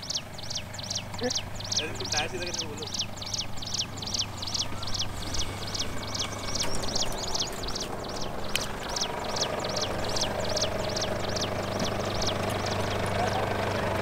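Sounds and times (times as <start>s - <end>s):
bird chirping sharply: 0.0s - 13.9s
engine running low: 0.0s - 14.0s.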